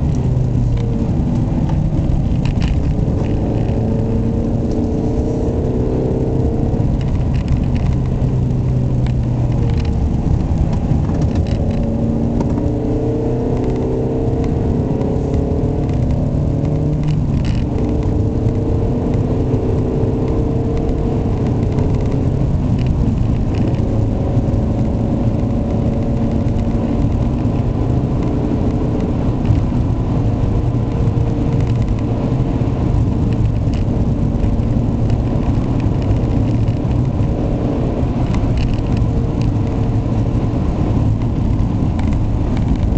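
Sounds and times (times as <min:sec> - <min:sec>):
car engine accelerating: 0:00.0 - 0:42.9
road rumble: 0:00.0 - 0:42.9.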